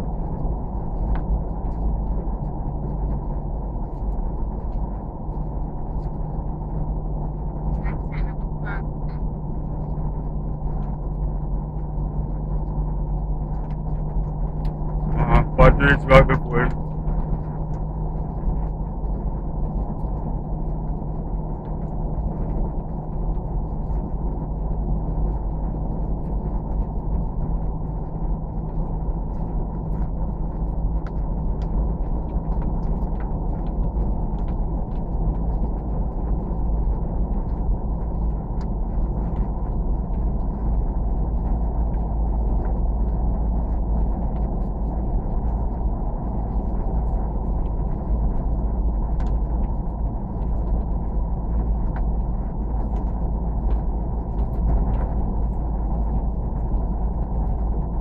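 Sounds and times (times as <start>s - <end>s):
low hum: 0.0s - 58.0s
vehicle engine and wind rumble: 0.0s - 58.0s.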